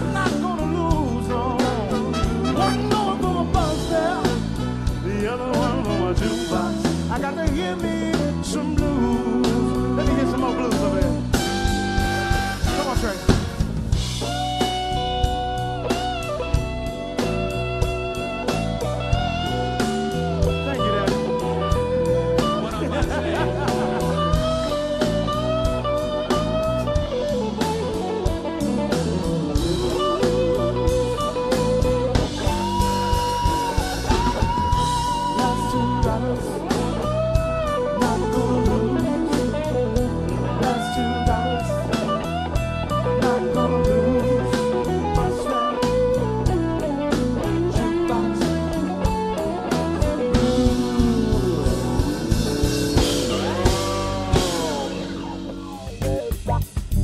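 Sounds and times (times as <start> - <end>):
electric guitar solo: 0.0 - 7.2, 8.4 - 56.6
drums: 0.0 - 57.0.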